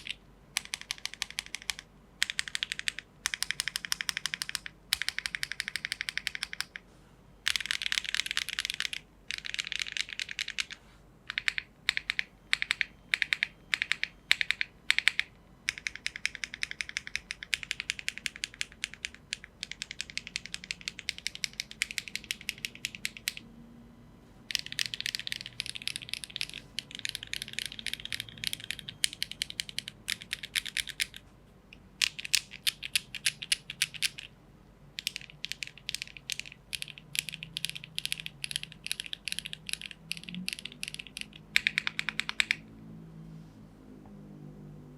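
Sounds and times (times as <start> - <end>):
typing on mechanical keyboard: 0.0 - 6.8, 7.4 - 23.4, 24.5 - 34.3, 35.0 - 42.6.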